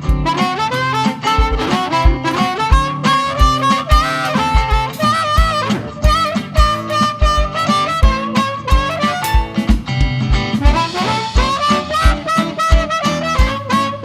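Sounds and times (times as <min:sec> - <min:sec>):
lead instrument bending notes: 0:00.0 - 0:09.9, 0:10.6 - 0:14.0
live blues band playing: 0:00.0 - 0:14.0
kick drum beat: 0:01.3 - 0:13.6.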